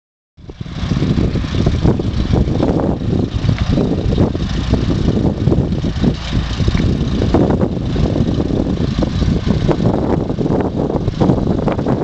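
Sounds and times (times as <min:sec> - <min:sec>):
tractor engine running: 0:00.4 - 0:12.0
wind buffeting microphone: 0:00.4 - 0:12.0.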